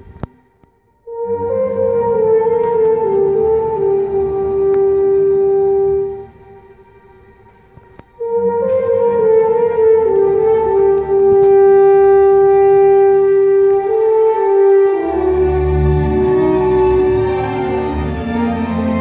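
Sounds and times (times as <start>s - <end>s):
french horn solo: 1.0s - 6.8s, 8.2s - 19.0s
string ensemble: 1.1s - 19.0s.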